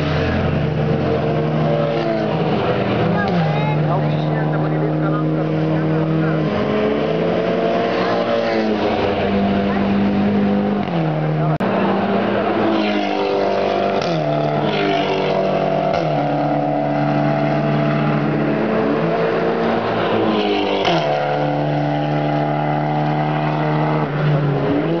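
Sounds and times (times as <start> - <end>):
race cars passing at speed: 0.0 - 25.0.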